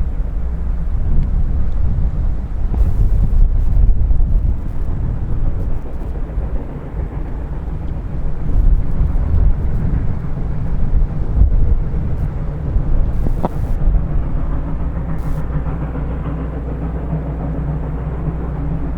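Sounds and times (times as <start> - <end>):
steam train rumbling: 0.0 - 18.9
wind noise on microphone: 0.0 - 18.9.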